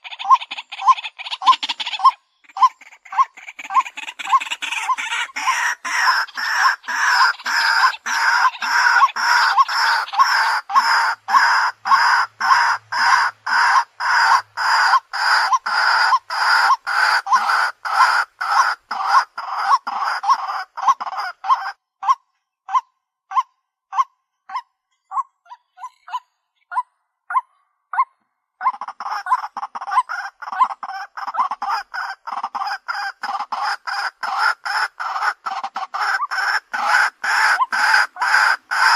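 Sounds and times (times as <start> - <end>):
waterhen kwak calls: 0.0 - 38.9.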